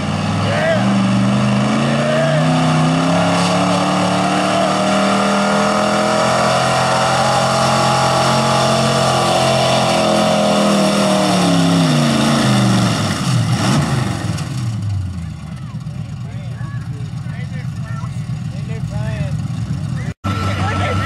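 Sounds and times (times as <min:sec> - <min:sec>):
truck engine running at high revs: 0:00.0 - 0:21.0.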